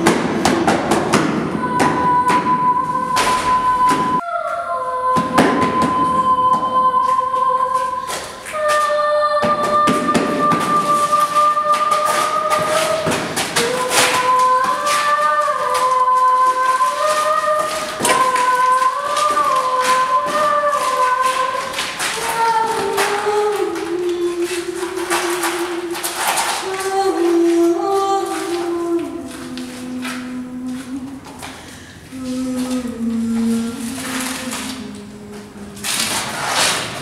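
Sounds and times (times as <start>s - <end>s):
person singing long held notes: 0.0s - 36.3s.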